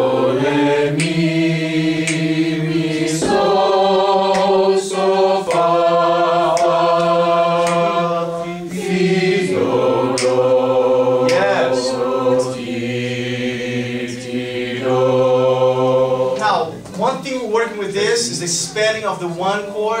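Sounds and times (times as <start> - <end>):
group singing held notes: 0.0 - 16.9.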